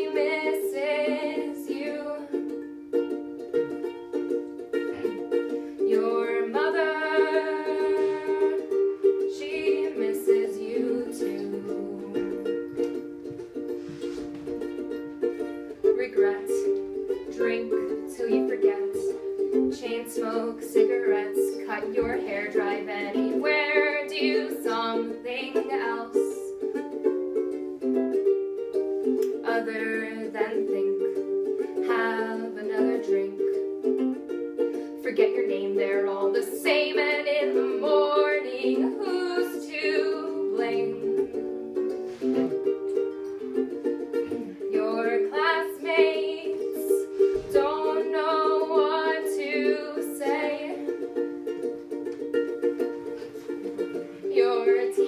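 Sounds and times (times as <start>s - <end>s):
person singing: 0.0s - 2.8s, 4.7s - 13.0s, 15.8s - 26.8s, 29.0s - 34.2s, 34.8s - 51.6s, 52.6s - 55.0s
strummed string instrument: 0.0s - 55.0s.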